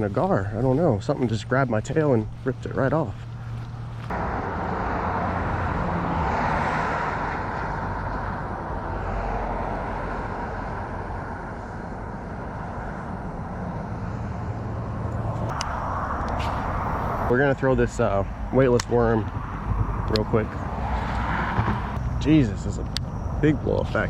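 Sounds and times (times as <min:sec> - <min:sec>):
highway traffic passing: 0:00.0 - 0:24.0.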